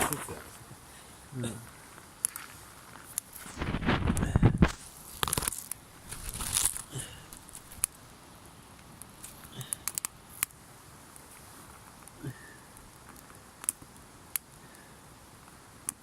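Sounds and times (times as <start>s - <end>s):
campfire crackling: 0.0s - 16.0s
fire pops and snaps: 1.9s - 14.8s, 15.4s - 16.0s.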